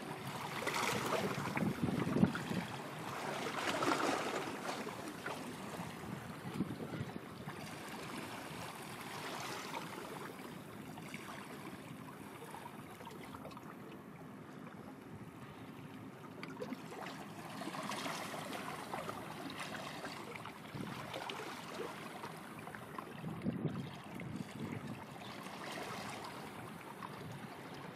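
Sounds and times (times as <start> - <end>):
water washing and lapping: 0.0 - 13.9, 16.3 - 27.9.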